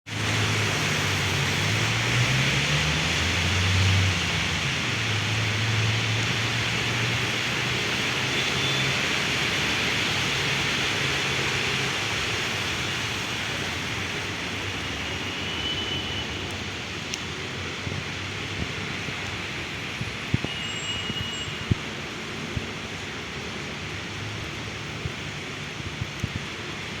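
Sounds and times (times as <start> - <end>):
heavy rain falling: 0.1 - 27.0.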